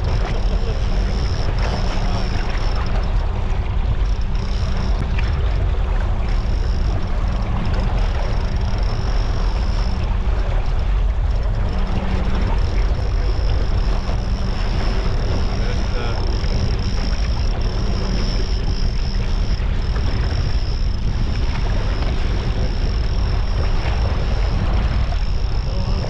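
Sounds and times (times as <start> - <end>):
boat engine humming: 0.0 - 26.0
high thin whine: 0.0 - 26.0
wind and water noise: 0.0 - 26.0.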